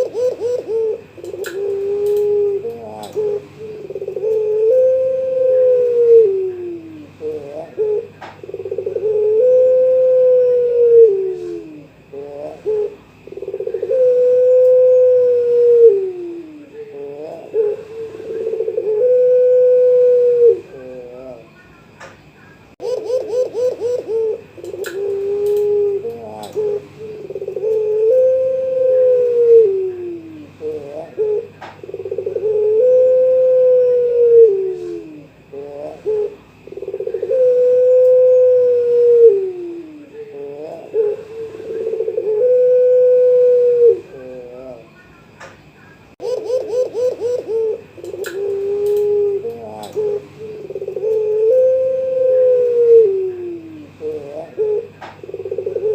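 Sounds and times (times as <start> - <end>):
dove cooing: 0.0 - 21.6, 22.8 - 45.0, 46.2 - 55.9.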